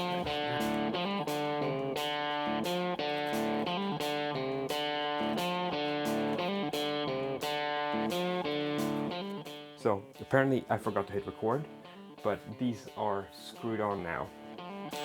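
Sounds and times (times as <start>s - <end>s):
guitar plucked and strummed: 0.0s - 15.0s.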